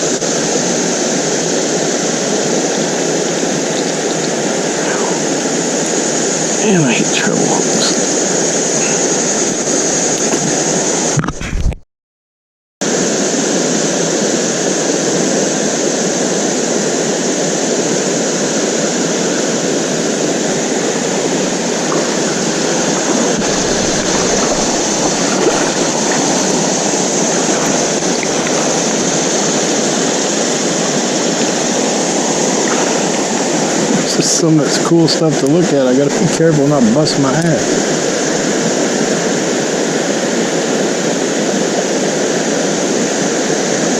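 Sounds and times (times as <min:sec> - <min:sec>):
river water rushing: 0:00.0 - 0:11.2, 0:12.9 - 0:43.9.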